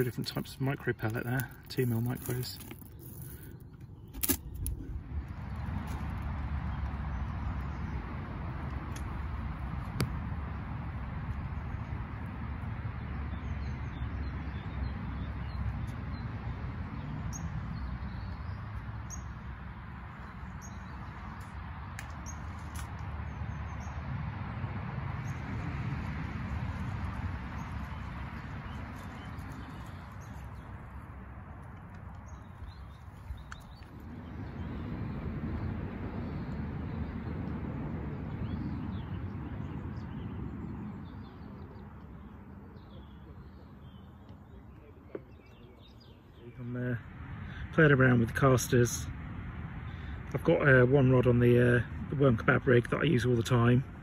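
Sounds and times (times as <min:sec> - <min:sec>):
small birds chirping: 0:00.0 - 0:10.2, 0:11.3 - 0:24.0, 0:25.1 - 0:48.8
wind rumble on microphone: 0:01.0 - 0:46.1.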